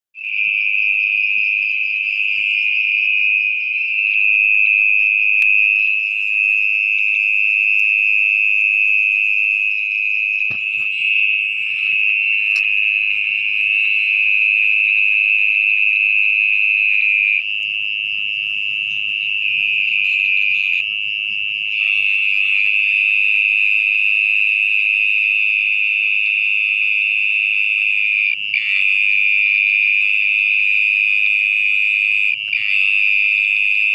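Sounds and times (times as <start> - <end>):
mole cricket trilling: 0.2 - 33.9.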